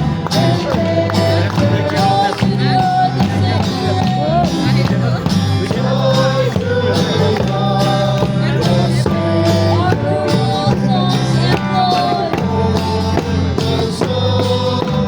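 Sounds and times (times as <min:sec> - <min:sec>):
steady beat: 0:00.0 - 0:15.0
sustained bass notes: 0:00.0 - 0:15.0
person singing: 0:00.3 - 0:15.0.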